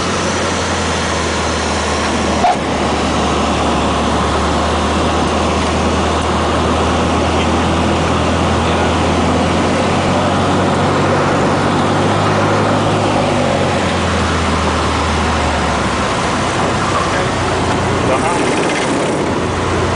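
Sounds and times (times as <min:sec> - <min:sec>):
light aircraft engine drone: 0:00.0 - 0:19.9.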